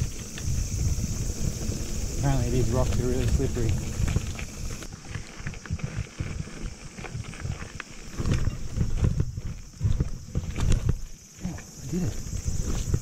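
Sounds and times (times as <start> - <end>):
mountain bike rattling over rocks: 0.0 - 13.0.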